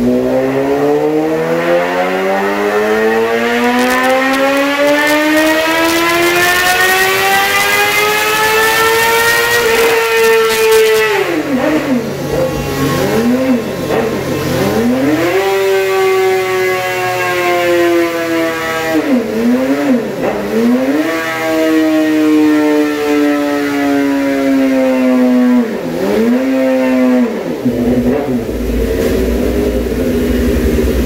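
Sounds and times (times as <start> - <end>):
motorcycle engine revving high: 0.0 - 31.0.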